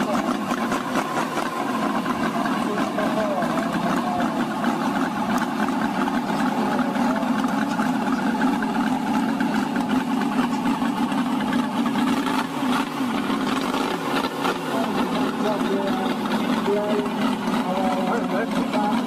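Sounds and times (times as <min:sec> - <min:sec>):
model engine running: 0:00.0 - 0:19.0.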